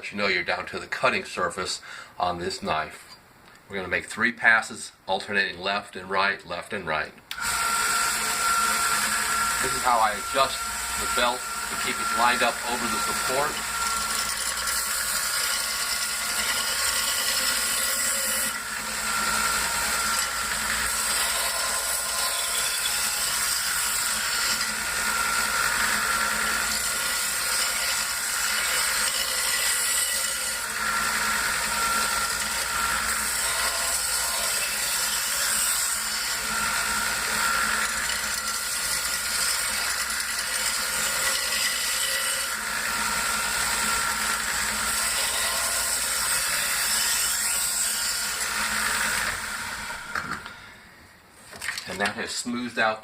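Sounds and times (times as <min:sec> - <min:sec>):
belt sharpener whining: 0:07.3 - 0:50.8.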